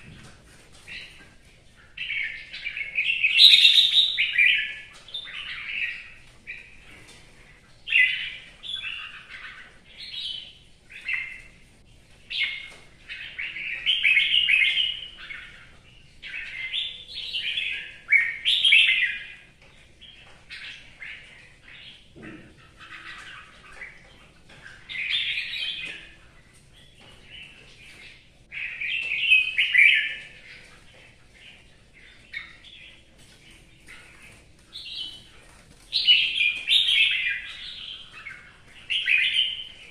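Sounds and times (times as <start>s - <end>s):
bird warbling song: 0.8s - 39.9s.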